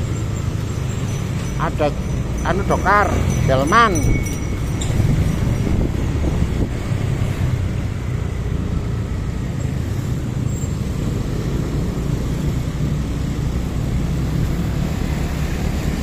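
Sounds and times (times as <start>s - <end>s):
motorbike engines rumbling: 0.0s - 16.0s
road noise: 0.0s - 16.0s.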